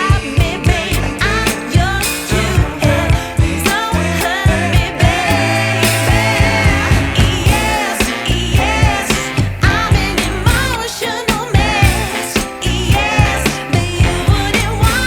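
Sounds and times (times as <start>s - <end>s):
pop song with singer and beat: 0.0s - 15.0s.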